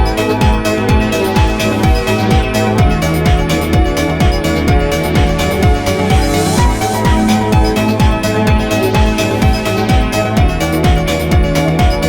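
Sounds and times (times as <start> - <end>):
kick drum: 0.0 - 12.0
synthesizer chords: 0.0 - 12.0.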